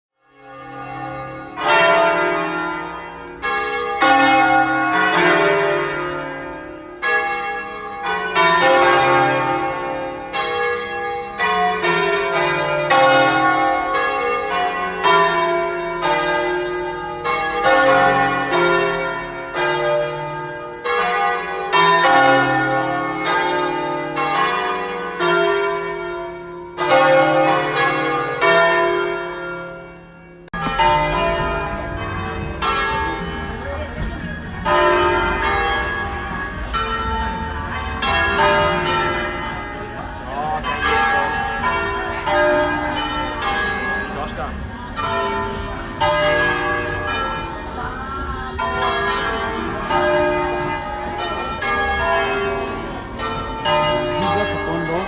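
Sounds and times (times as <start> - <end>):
church bells ringing: 0.2 - 55.0.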